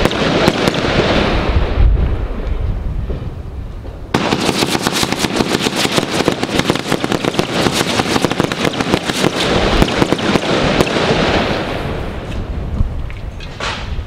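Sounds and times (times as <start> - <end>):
firework bangs and crackles: 0.0 - 14.0.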